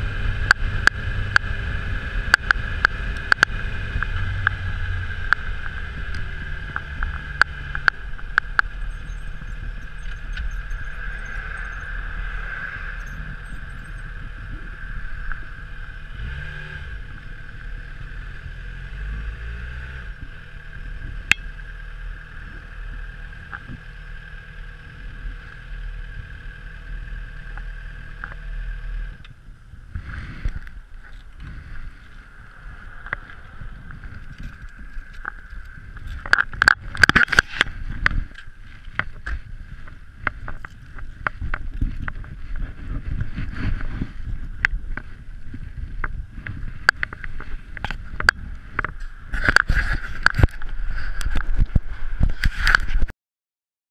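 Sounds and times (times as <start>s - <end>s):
motorcycle engine running: 0.0s - 53.1s.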